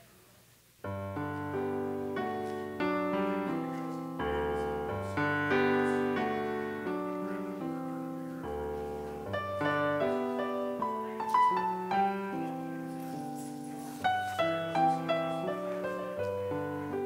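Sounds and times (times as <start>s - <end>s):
digital piano music: 0.9s - 17.0s.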